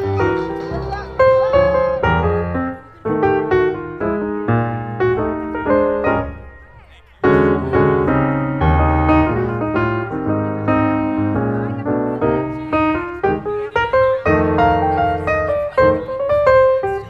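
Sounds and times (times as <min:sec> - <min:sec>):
piano chords and melody: 0:00.0 - 0:17.0.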